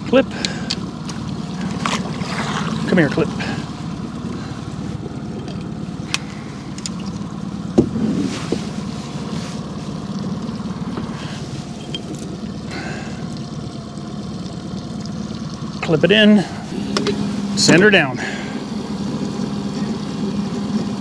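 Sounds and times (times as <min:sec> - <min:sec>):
outboard motor humming: 0:00.0 - 0:21.0.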